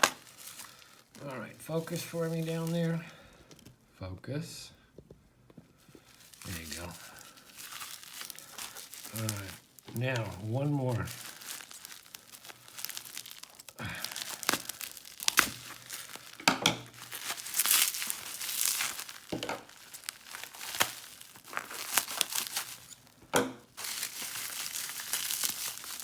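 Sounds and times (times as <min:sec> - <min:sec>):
wrapping ripping: 0:00.0 - 0:03.7, 0:05.9 - 0:26.0
packing wrap crinkling: 0:00.0 - 0:03.8, 0:05.8 - 0:26.0.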